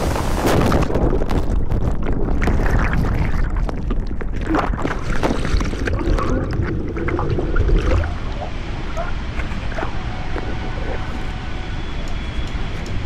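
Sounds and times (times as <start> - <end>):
water splashing: 0.0 - 11.1.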